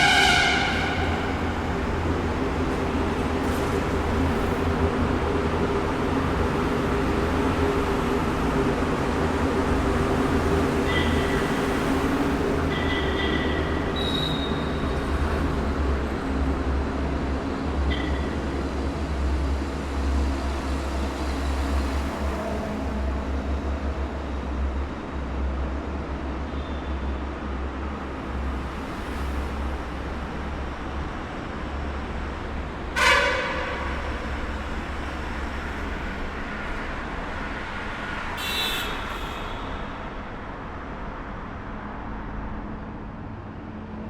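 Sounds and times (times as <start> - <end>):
traffic rumbling in tunnel: 0.0 - 44.0.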